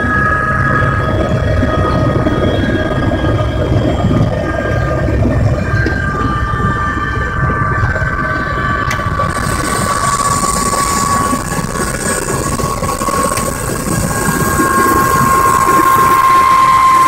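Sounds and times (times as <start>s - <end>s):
helicopter turbine and rotor: 0.0s - 17.0s.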